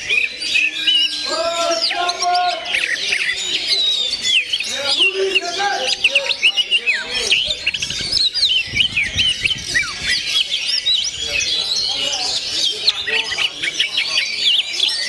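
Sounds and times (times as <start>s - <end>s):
bird singing whistled song: 0.0s - 15.0s.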